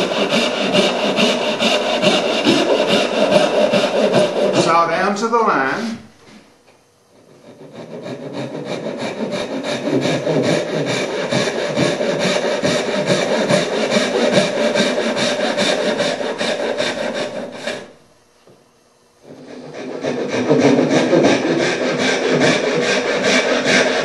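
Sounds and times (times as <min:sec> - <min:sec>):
hand saw cutting wood: 0:00.0 - 0:06.0, 0:07.2 - 0:18.0, 0:19.2 - 0:24.0.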